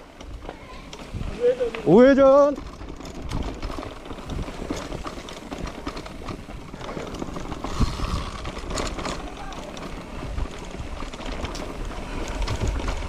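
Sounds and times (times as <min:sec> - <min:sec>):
road noise: 0:00.0 - 0:13.0
wind rumbling on microphone: 0:00.0 - 0:13.0
clicks and rattles: 0:00.1 - 0:13.0.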